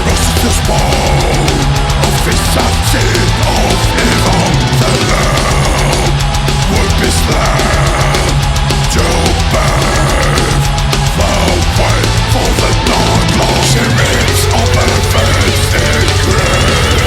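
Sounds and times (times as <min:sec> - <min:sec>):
instrumental metal music: 0:00.0 - 0:17.0.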